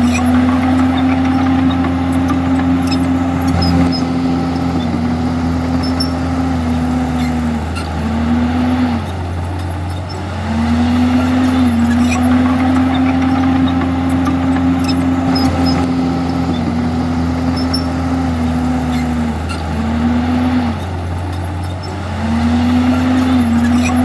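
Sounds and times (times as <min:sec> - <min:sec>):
bulldozer diesel engine under load: 0:00.0 - 0:24.0.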